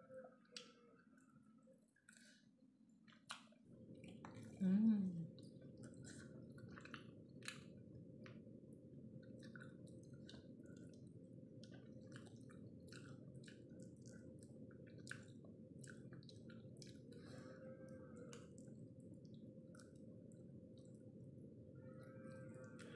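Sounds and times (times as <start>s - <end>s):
wet chewing and lip-smacking: 0.5s - 4.6s, 5.3s - 17.3s, 18.2s - 21.2s.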